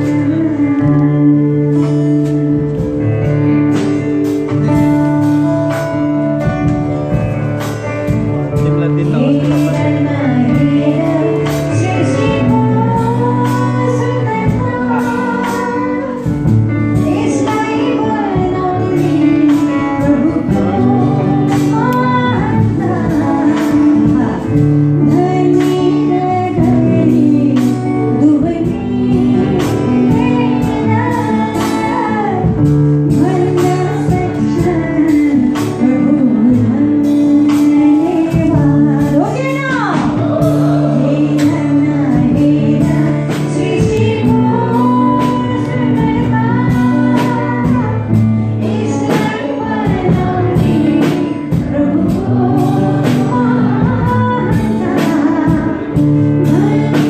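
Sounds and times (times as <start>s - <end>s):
instrumental accompaniment with beat: 0.0s - 57.0s
woman singing into a microphone: 0.0s - 57.0s.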